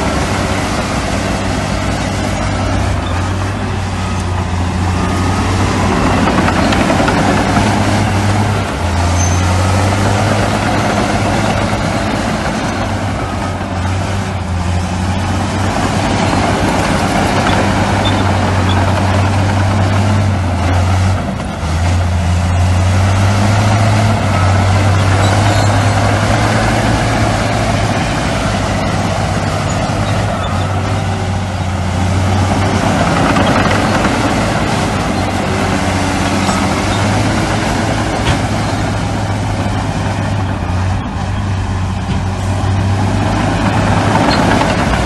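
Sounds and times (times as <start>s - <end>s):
heavy diesel machinery engine drone: 0.0s - 45.0s.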